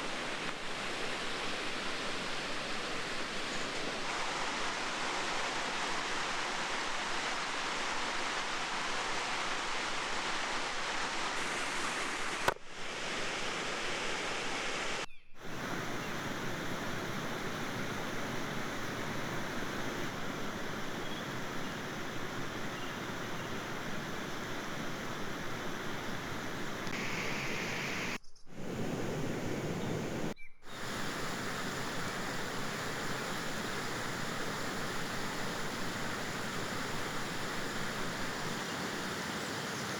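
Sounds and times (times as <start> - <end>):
rushing outdoor background noise: 0.0 - 39.9.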